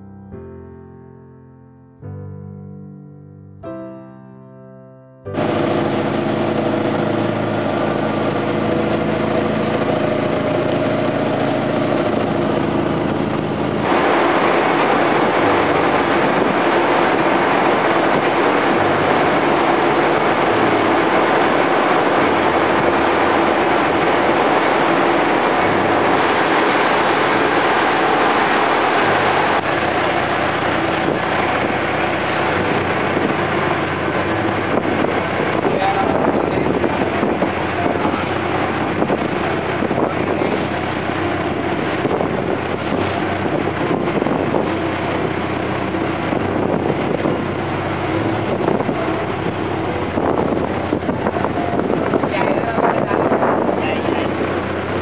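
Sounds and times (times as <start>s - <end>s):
boat engines running loudly: 5.3s - 55.0s
wind buffeting microphone: 5.4s - 55.0s.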